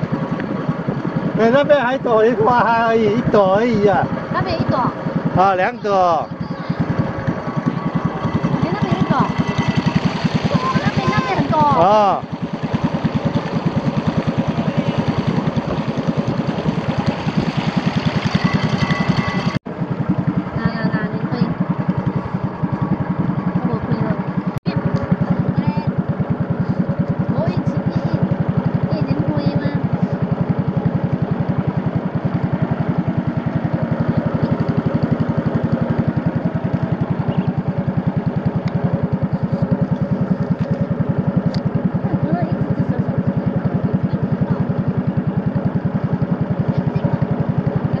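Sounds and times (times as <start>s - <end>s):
motorboat engine chugging: 0.0s - 48.0s.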